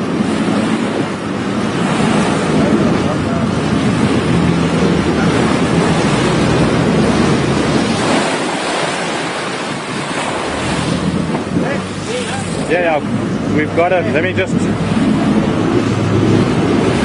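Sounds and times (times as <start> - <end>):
sea water rushing: 0.0 - 17.0
wind buffeting microphone: 0.0 - 17.0.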